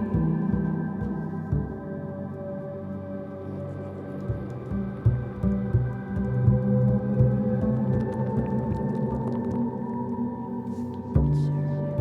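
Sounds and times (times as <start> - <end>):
low pulse: 0.0 - 12.0.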